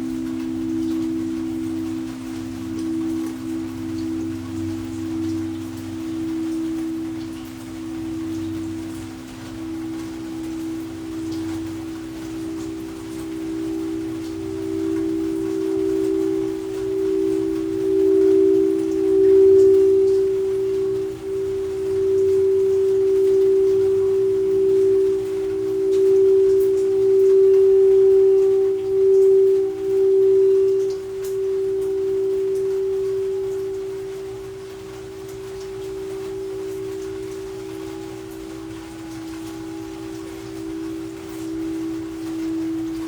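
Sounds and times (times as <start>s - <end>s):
faint rain pattering: 0.0s - 43.0s
singing bowl ringing: 0.0s - 43.0s.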